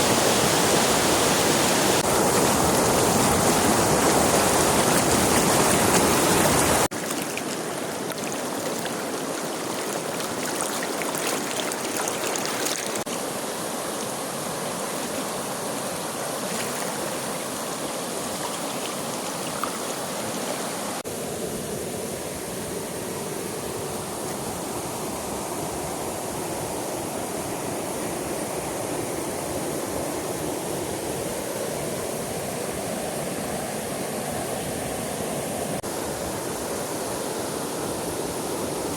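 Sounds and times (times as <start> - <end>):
mountain stream rushing and splashing: 0.0 - 38.9.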